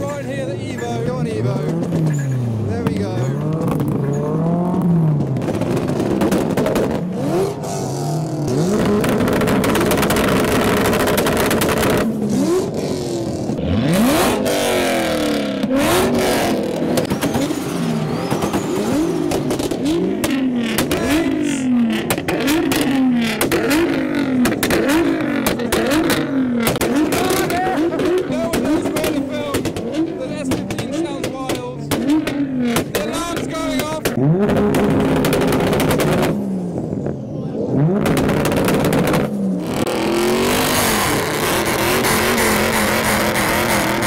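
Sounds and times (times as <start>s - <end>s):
car engines revving: 0.0s - 44.0s
exhaust cracks: 0.1s - 44.0s.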